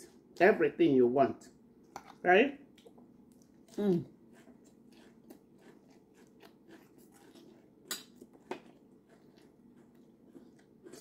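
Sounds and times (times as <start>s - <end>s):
person chewing salad: 1.8s - 11.0s.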